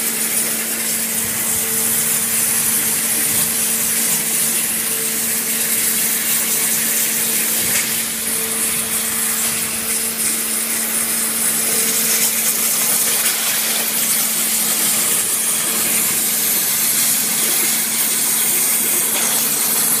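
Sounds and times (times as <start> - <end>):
waterjet cutting hiss: 0.0 - 20.0.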